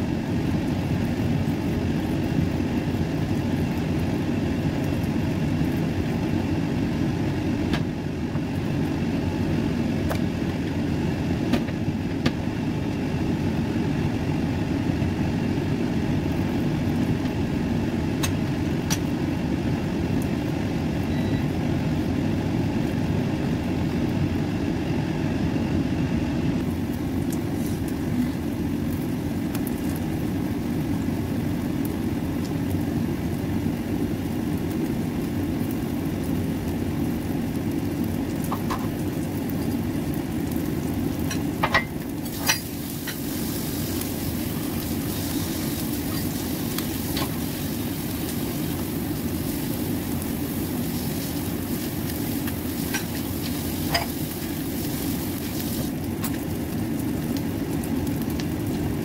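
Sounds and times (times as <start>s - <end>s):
patties sizzling in oil: 0.0s - 24.7s, 26.6s - 59.0s
steady low rumble: 0.0s - 59.0s.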